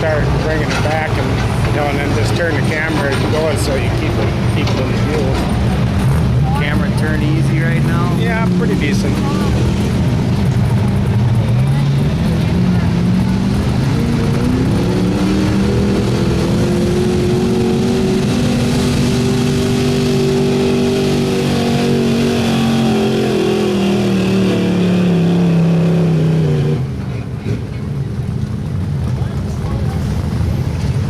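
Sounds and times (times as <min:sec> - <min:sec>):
truck engine at full throttle: 0:00.0 - 0:31.0.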